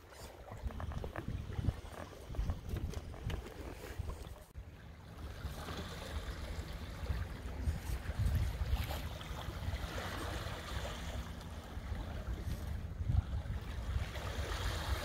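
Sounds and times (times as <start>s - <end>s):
wind rumbling on microphone: 0.0s - 4.6s, 5.7s - 15.0s
water slapping against hull: 0.0s - 15.0s.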